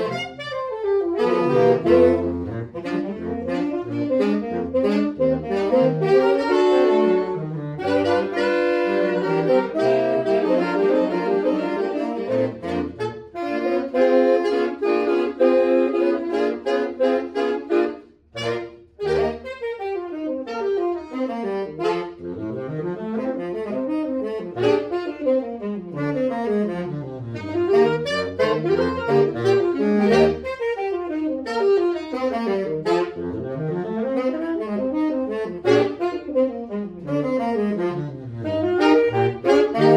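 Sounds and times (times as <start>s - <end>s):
saxophone quartet playing: 0.0s - 39.9s.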